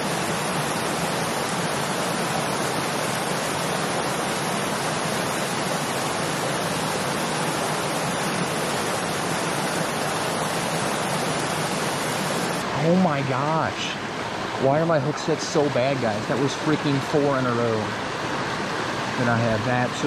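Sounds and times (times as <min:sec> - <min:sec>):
creek flowing over rocks: 0:00.0 - 0:20.0.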